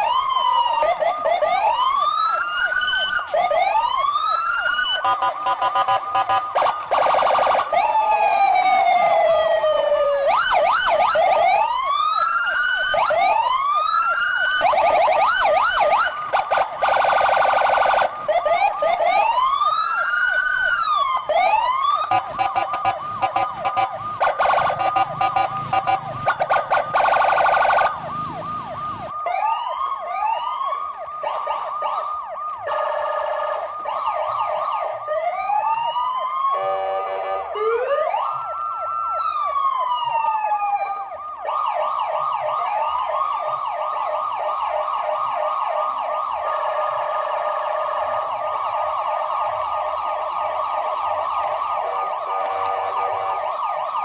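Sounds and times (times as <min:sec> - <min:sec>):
electronic toy sirens whooping: 0:00.0 - 0:54.0.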